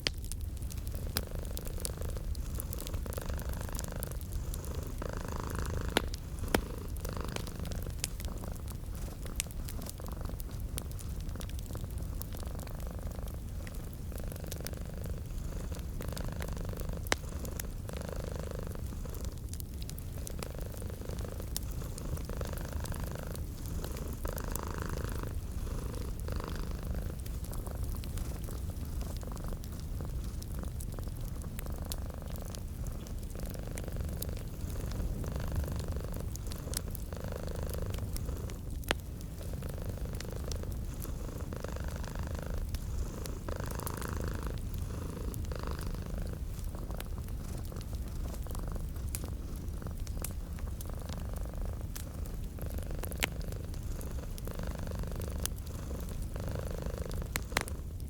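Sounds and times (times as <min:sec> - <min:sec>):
fireplace crackling and popping: 0:00.0 - 0:58.0
cat purring: 0:00.2 - 0:58.0.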